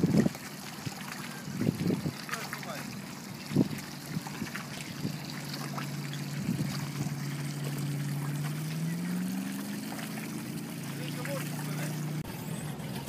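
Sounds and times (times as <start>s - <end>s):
low motor hum: 0.0s - 13.0s
water lapping against boat hull: 0.0s - 13.0s.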